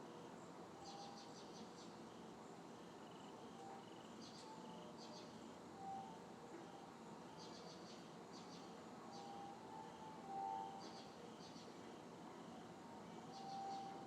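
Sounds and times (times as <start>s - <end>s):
night insects chirping: 0.0s - 14.0s
faint brief steady tones: 2.1s - 14.0s.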